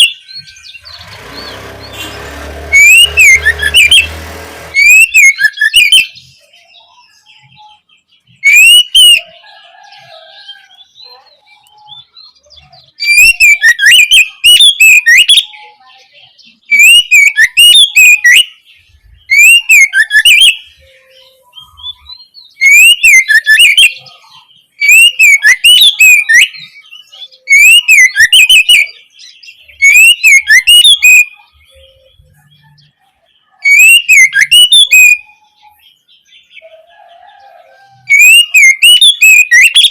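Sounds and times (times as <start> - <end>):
bird singing whistled phrases: 0.0 - 1.5, 2.7 - 9.4, 10.5 - 15.8, 16.7 - 18.6, 19.2 - 33.0, 33.6 - 36.0, 37.6 - 39.9.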